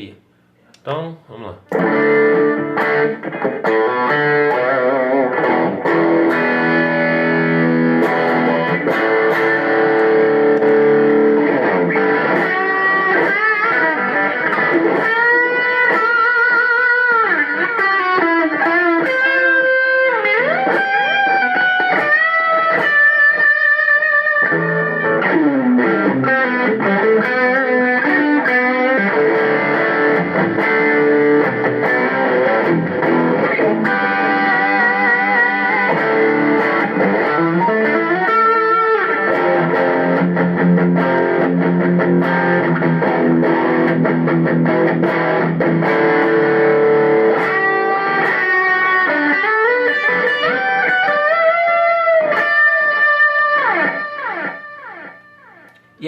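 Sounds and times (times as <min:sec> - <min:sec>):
electric guitar chords and lead: 0:01.7 - 0:56.0.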